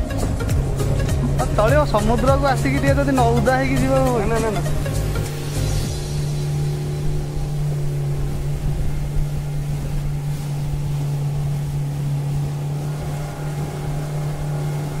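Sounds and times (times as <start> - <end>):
rushing water: 0.0 - 15.0
speedboat engine running: 0.0 - 15.0
wind: 0.0 - 15.0.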